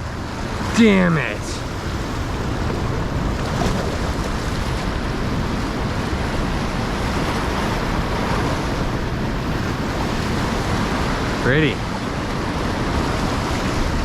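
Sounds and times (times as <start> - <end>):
fast river water rushing: 0.0 - 14.0
wind buffeting microphone: 0.0 - 14.0.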